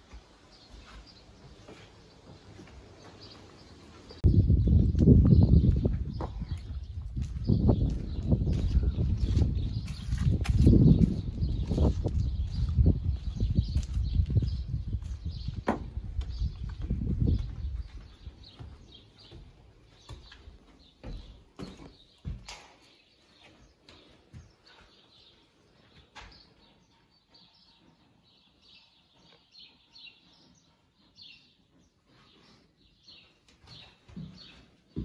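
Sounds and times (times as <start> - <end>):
footsteps on wooden floorboards: 0.0 - 26.6, 33.4 - 35.0
small birds chirping faintly: 0.1 - 35.0.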